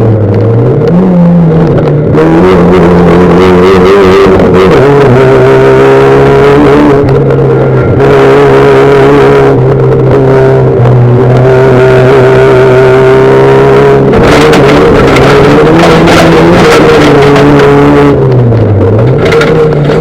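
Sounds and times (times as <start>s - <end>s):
race car engines at high revs: 0.0s - 20.0s.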